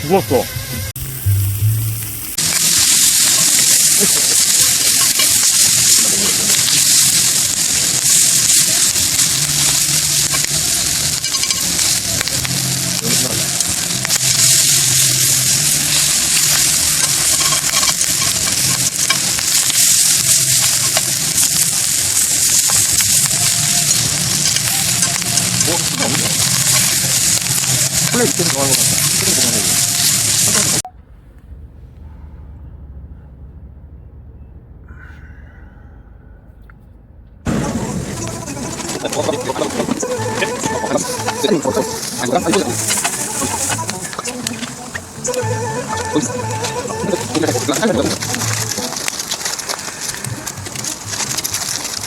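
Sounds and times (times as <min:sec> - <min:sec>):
food sizzling in a pan: 0:01.0 - 0:30.9, 0:37.5 - 0:52.0.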